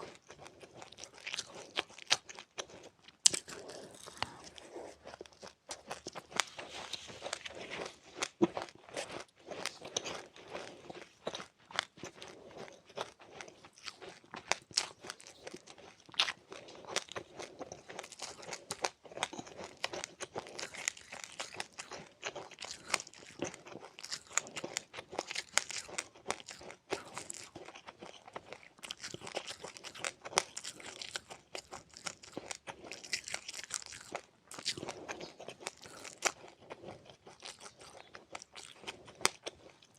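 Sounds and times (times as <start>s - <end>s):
person chewing crunchy seeds: 0.0s - 39.9s.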